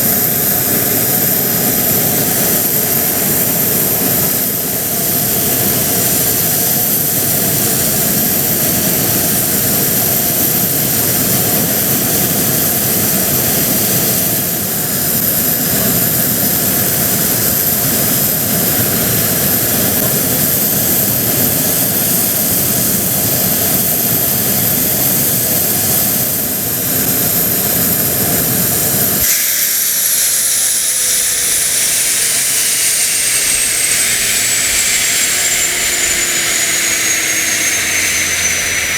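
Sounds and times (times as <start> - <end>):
jet engine whine and rumble: 0.0 - 38.9.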